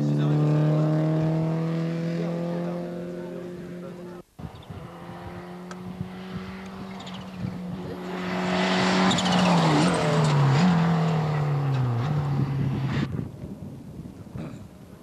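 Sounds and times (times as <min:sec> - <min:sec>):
rally car engine at full throttle: 0:00.0 - 0:13.4.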